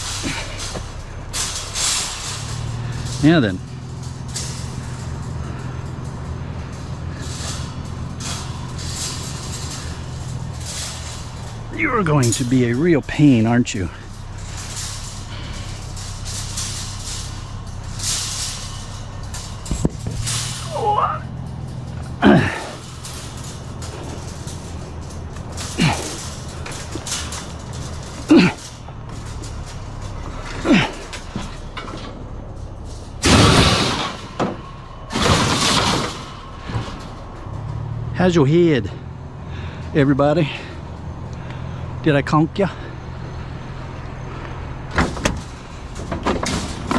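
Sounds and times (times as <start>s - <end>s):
small metal knocks: 0.0s - 38.1s, 42.6s - 46.9s
scrap metal scraping and rustling: 0.0s - 46.9s
steady low hum: 0.0s - 46.9s.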